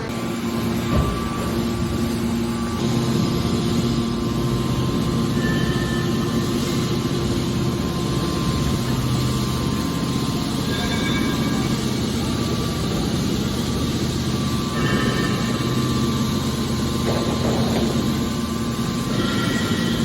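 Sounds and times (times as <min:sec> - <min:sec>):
baler machine hum: 0:00.0 - 0:20.0.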